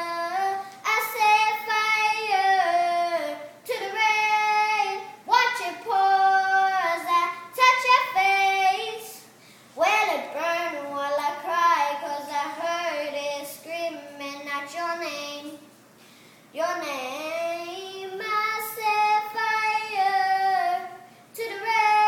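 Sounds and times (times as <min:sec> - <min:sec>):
boy singing a cappella: 0:00.0 - 0:15.7, 0:16.5 - 0:22.0.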